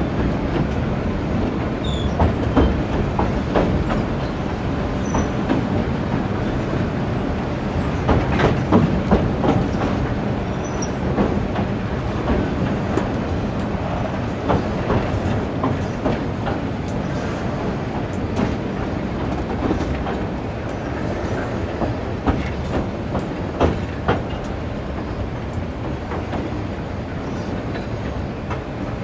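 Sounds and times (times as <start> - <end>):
train wheels rumbling: 0.0 - 29.0
clicks and clacks from rails: 0.1 - 29.0.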